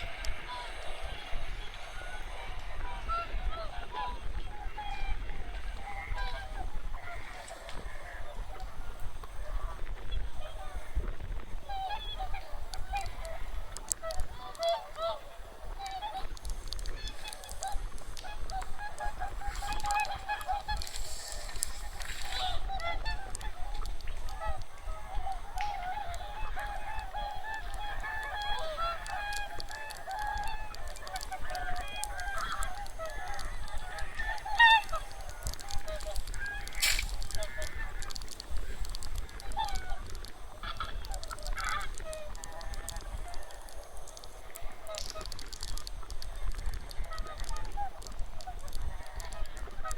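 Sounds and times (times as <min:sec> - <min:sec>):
geese and swans honking: 0:00.0 - 0:49.9.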